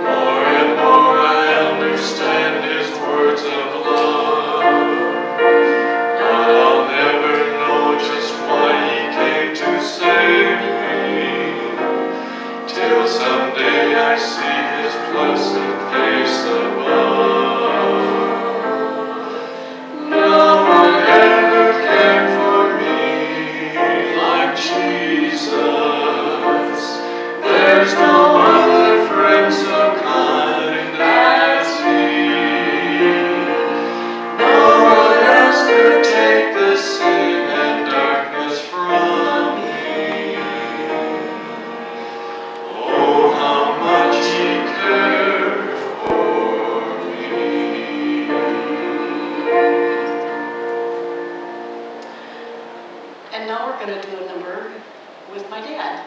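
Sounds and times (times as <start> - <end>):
man singing a hymn: 0.0 - 50.3
grand piano: 0.0 - 56.0.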